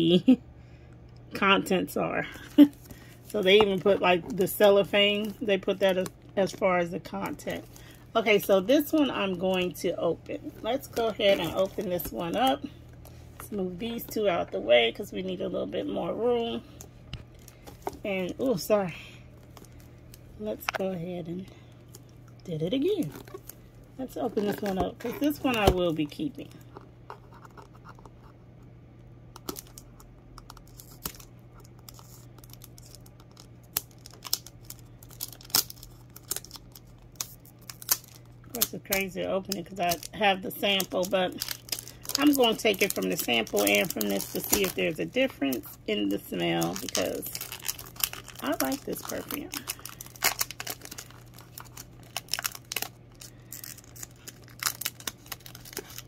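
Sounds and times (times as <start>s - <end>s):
faint low hum: 0.0s - 56.0s
cellophane crinkling: 2.3s - 13.2s, 16.7s - 28.4s, 29.3s - 56.0s.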